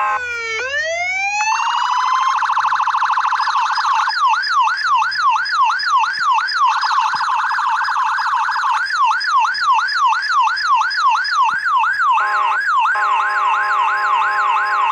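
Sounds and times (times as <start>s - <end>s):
electronic police siren yelp: 0.0s - 14.9s.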